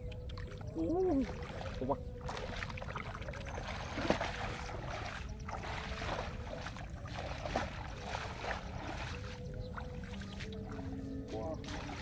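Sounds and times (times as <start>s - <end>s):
bare feet wading through water: 0.0s - 12.0s
splashes and squelches: 0.0s - 12.0s.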